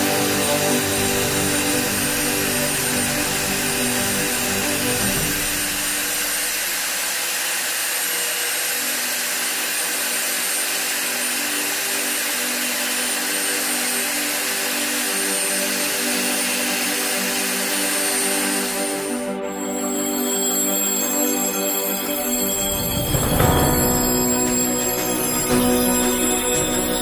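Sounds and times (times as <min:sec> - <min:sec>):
electric meat grinder humming: 0:00.0 - 0:23.4.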